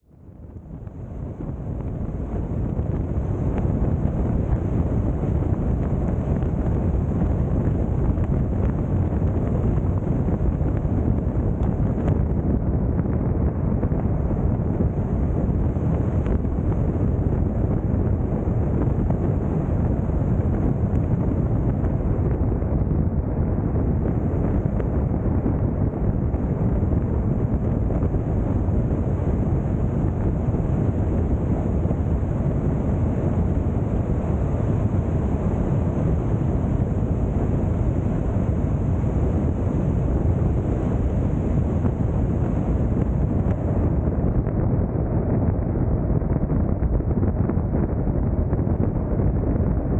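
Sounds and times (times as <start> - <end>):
tyre and wind noise: 0.6 - 49.9.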